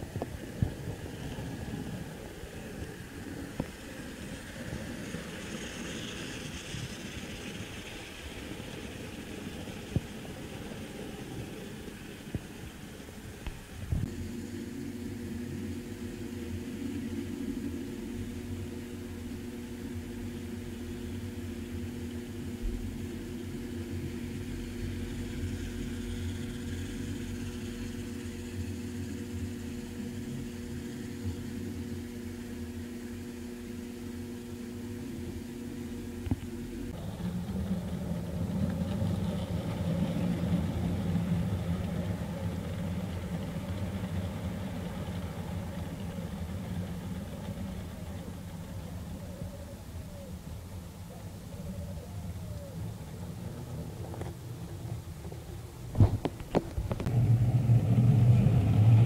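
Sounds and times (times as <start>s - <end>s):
model train rumbling on track: 0.0s - 59.0s.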